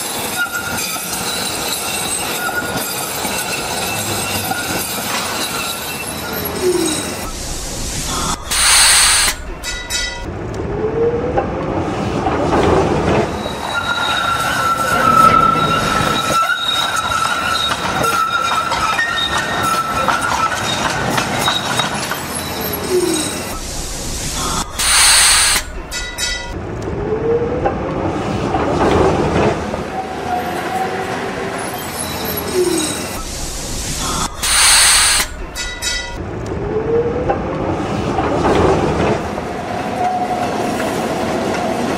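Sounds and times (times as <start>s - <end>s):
tram wheel squeal: 0.0s - 10.3s, 12.4s - 26.6s, 28.9s - 36.2s, 36.8s - 41.9s.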